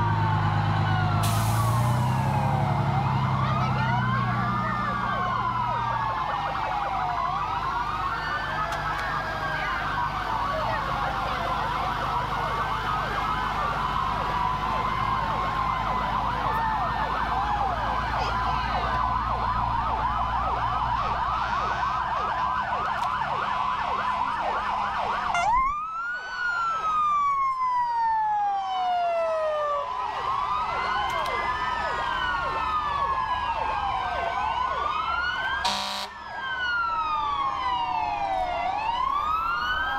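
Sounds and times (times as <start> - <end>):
fire truck sirens wailing: 0.0 - 39.9
truck engines rumbling: 0.0 - 39.9.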